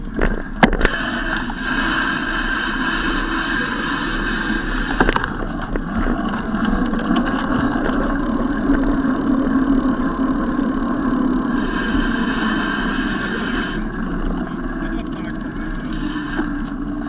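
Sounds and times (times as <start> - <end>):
bicycle road rumble: 0.0 - 17.0
wind on microphone: 0.0 - 17.0.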